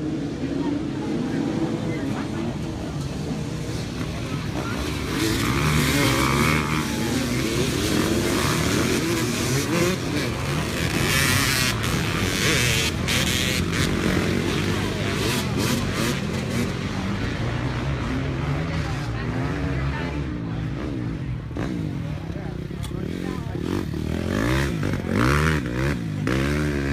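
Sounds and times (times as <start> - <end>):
dirt bike engines revving: 0.0 - 26.9.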